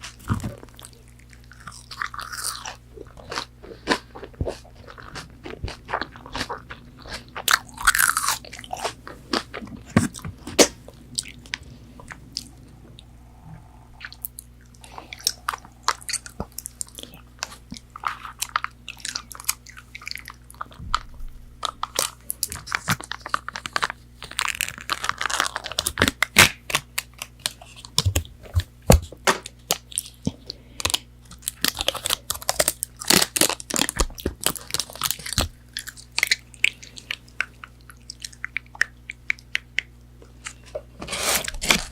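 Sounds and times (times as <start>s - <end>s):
crunching and chewing crispy food: 0.0s - 13.0s, 14.0s - 41.9s.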